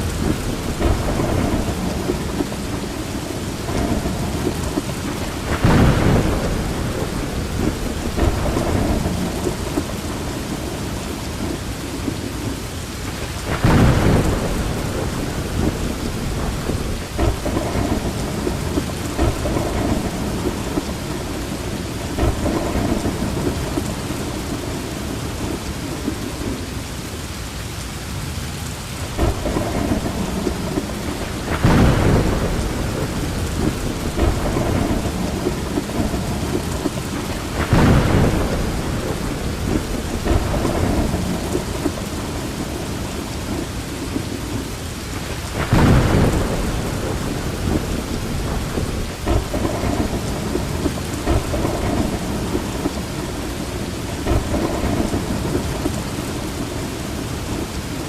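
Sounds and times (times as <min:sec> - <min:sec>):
thunder rumbling: 0:00.0 - 0:27.2, 0:28.3 - 0:58.0
heavy rain: 0:00.0 - 0:58.0.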